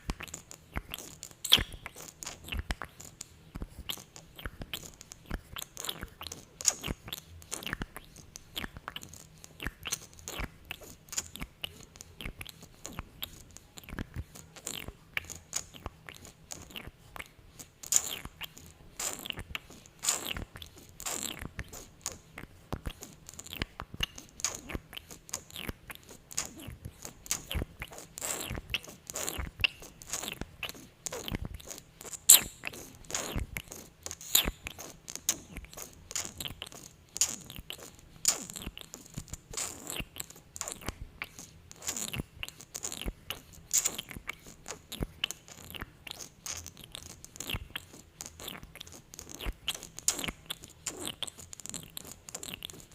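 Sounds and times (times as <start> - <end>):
sticky lip smacks: 0.0 - 52.9.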